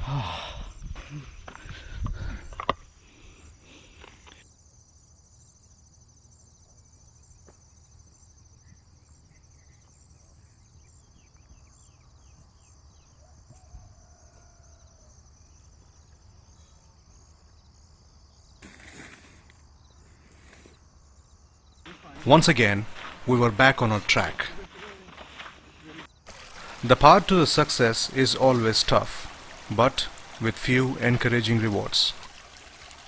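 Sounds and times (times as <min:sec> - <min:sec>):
insects trilling: 0:00.1 - 0:33.0.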